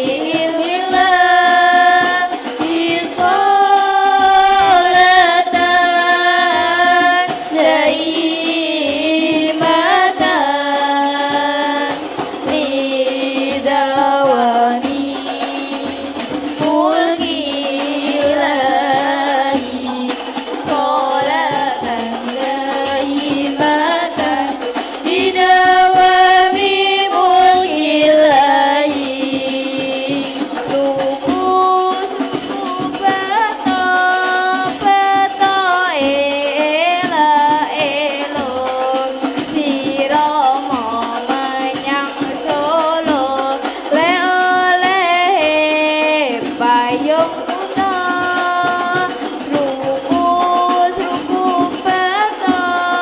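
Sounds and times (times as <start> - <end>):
children singing devotional song: 0.0 - 53.0
frame drums beating: 0.0 - 53.0.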